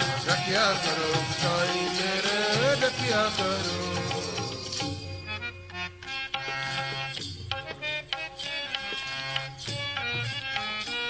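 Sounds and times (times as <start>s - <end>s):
sustained harmonium notes: 0.0s - 11.0s.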